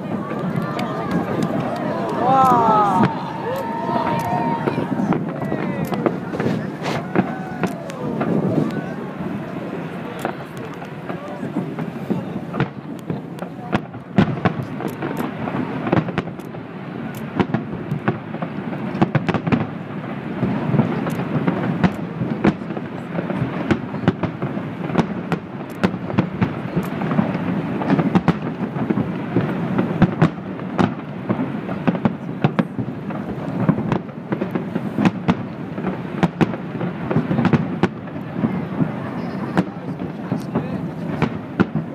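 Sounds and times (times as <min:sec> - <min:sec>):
firework bangs and crackles: 0:00.0 - 0:41.9
low rumble of fireworks: 0:00.0 - 0:41.9.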